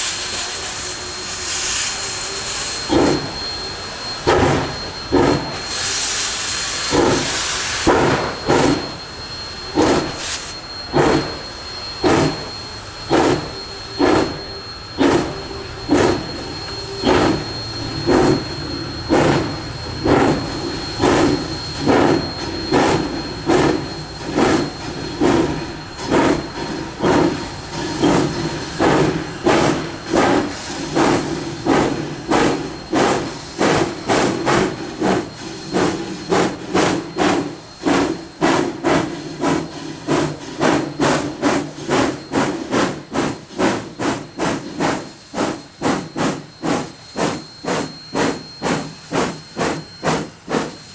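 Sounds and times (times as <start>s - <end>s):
steam locomotive chuffing: 0.0s - 50.9s.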